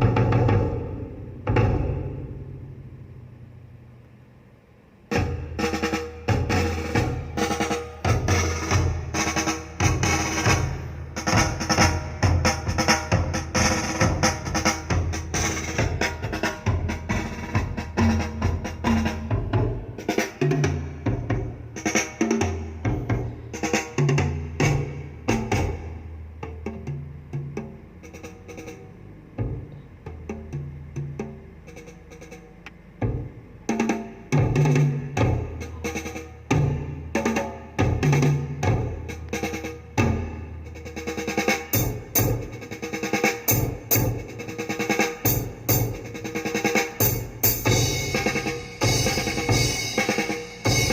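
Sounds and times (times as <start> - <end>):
drum-heavy music over speakers: 0.0 - 3.5, 5.1 - 50.9.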